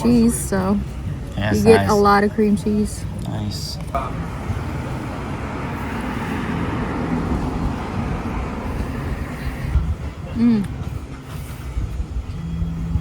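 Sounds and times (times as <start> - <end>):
rumbling background noise: 0.0 - 13.0.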